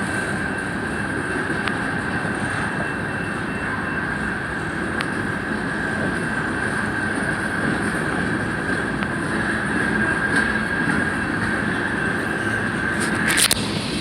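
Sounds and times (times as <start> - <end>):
high-pitched whine: 0.0 - 14.0
train rumble: 0.0 - 14.0.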